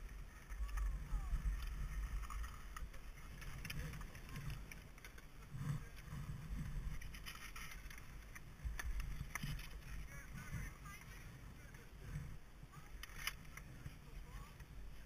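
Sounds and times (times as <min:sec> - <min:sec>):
clicks of skis and poles: 0:00.0 - 0:11.3, 0:12.0 - 0:14.8
skis scraping on packed snow: 0:00.0 - 0:15.0
wind rumble on microphone: 0:00.0 - 0:15.0.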